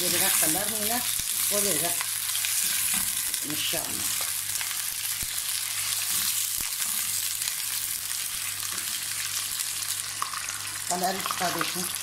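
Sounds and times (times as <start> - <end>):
beef sizzling in hot oil: 0.0 - 12.0.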